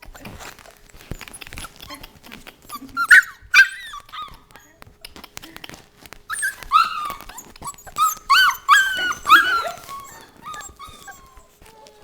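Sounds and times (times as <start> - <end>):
puppies whining and yipping: 0.0 - 12.0
small scuffling clicks: 0.0 - 12.0.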